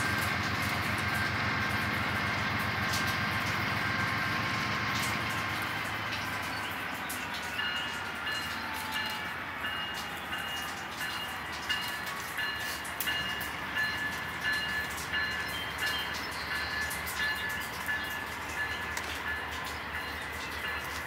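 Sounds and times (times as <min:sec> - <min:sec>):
freight train rolling: 0:00.0 - 0:21.0.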